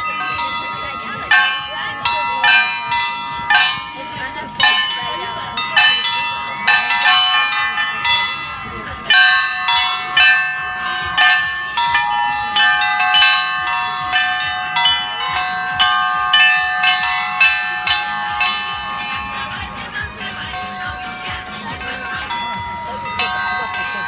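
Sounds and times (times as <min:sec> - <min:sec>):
belfry bells pealing: 0:00.0 - 0:24.0.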